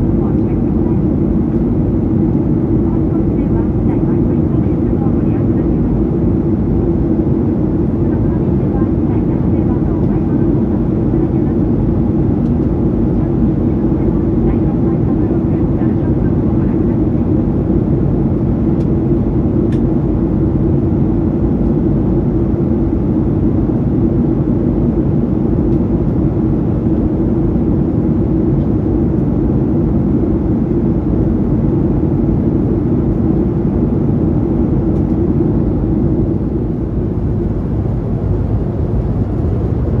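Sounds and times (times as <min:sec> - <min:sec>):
aircraft cabin engine noise: 0:00.0 - 0:40.0.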